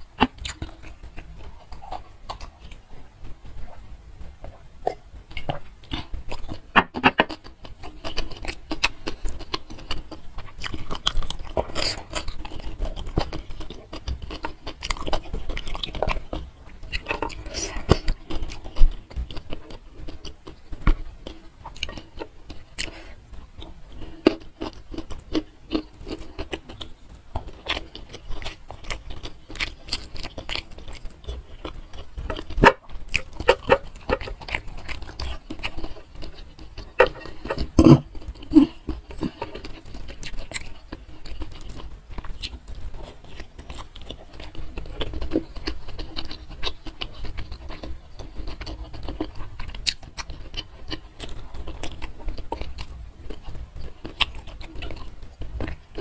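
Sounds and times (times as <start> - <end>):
wet chewing and lip smacking: 0.0 - 56.0.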